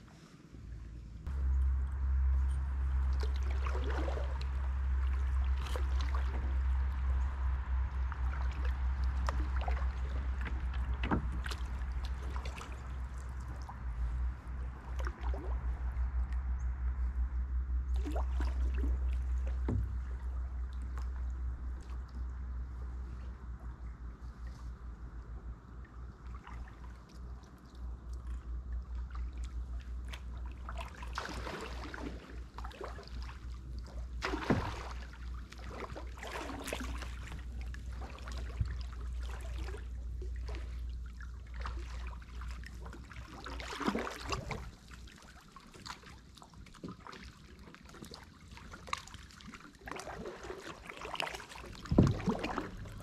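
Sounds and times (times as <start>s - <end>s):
low rumble: 0.0s - 44.7s, 51.4s - 53.0s
water lapping at hull: 0.0s - 53.0s
paddle splashing in water: 1.2s - 16.6s, 17.9s - 24.8s, 25.8s - 53.0s.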